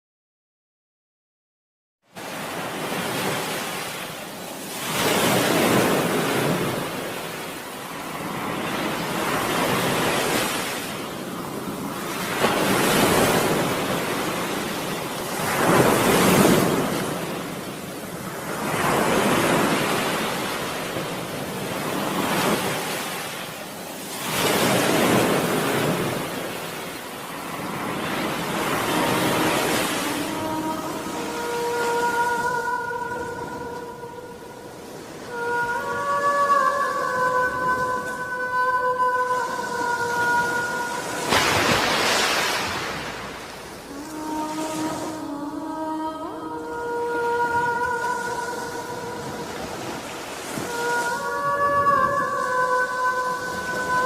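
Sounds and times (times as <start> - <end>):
sea waves breaking: 2.2 - 54.0.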